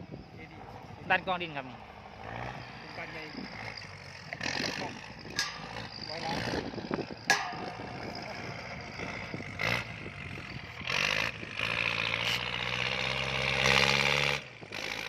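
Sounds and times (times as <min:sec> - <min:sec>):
tractor diesel engine working hard: 0:00.0 - 0:15.0.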